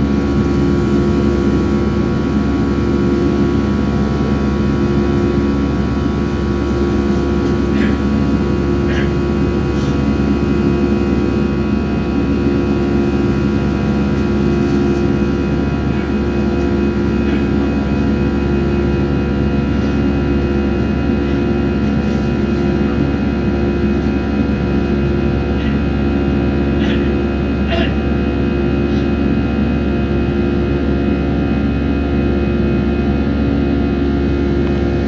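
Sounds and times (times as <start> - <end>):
jet engines droning in cabin: 0.0 - 35.0.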